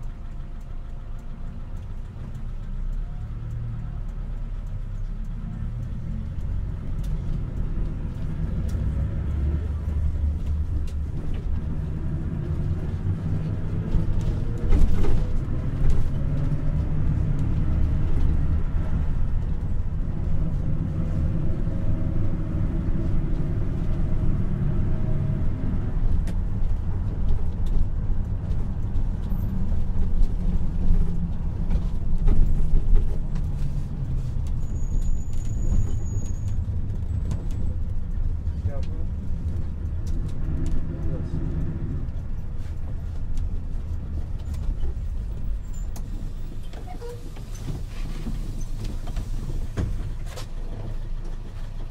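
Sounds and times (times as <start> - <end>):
car engine and tyres rumbling: 0.0 - 51.9.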